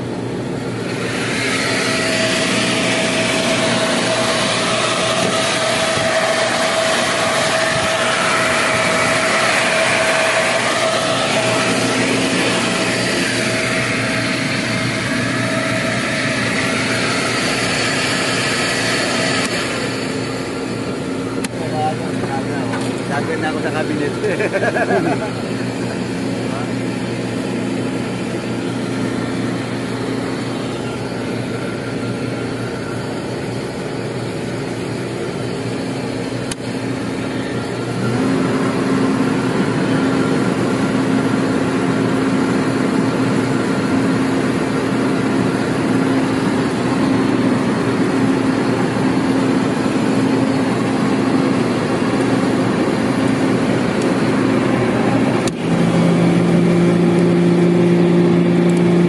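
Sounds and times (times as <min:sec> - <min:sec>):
refrigeration unit humming: 0:00.0 - 0:59.0.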